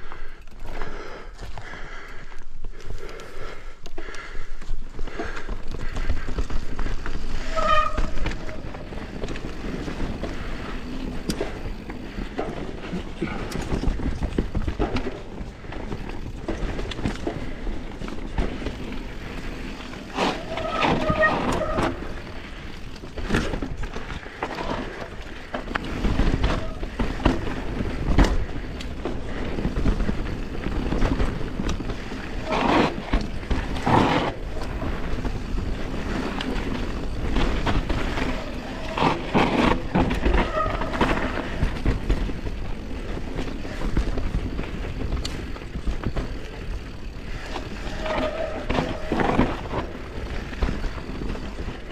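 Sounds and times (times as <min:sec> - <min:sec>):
tyre and trail noise: 0:00.0 - 0:51.9
bike knocks and rattles: 0:05.0 - 0:51.9.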